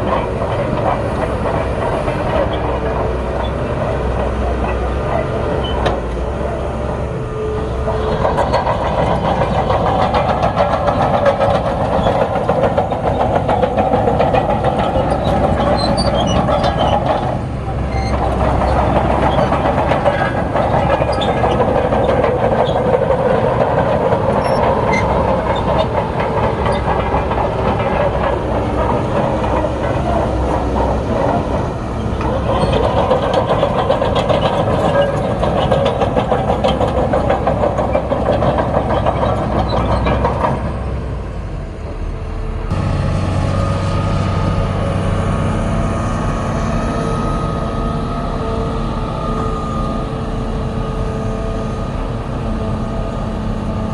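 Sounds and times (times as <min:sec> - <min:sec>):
bulldozer diesel engine under load: 0:00.0 - 0:53.9
engine drone with hum: 0:00.0 - 0:53.9
steel crawler tracks clanking: 0:00.0 - 0:53.9.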